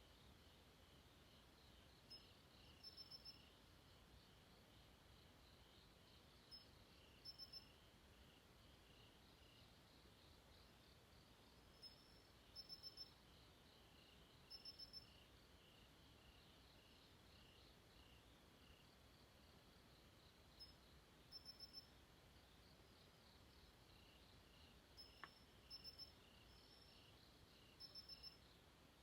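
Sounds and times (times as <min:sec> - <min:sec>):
crickets chirping: 0:00.0 - 0:29.0
low hiss: 0:00.0 - 0:29.0.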